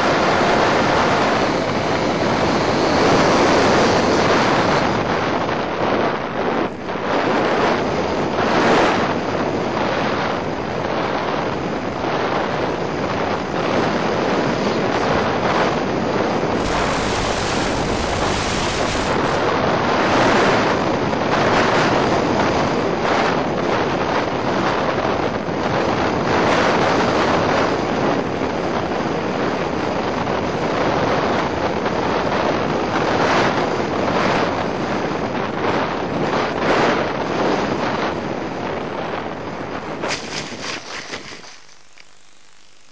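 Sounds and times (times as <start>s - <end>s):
wind buffeting microphone: 0.0s - 41.6s.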